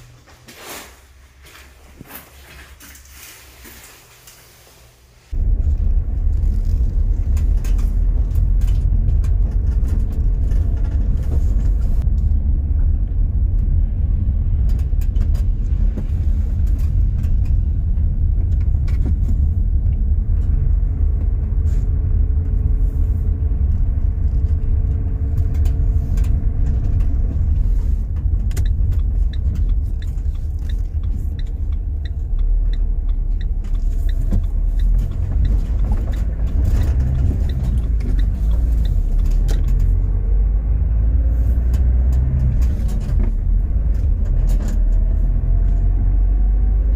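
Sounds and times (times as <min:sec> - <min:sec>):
car engine and tyre rumble: 0:00.0 - 0:46.9.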